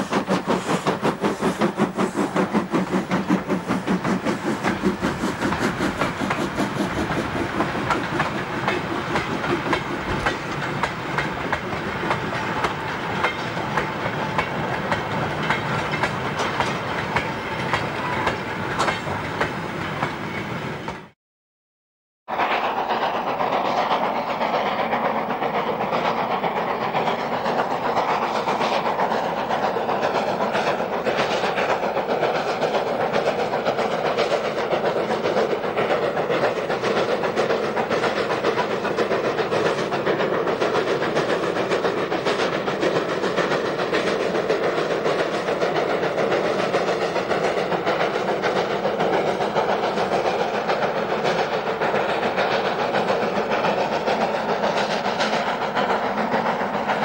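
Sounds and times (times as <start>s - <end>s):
train wheels clanking over rail joints: 0.0s - 20.2s, 22.3s - 57.0s
steam locomotive rushing: 0.0s - 21.2s, 22.3s - 57.0s.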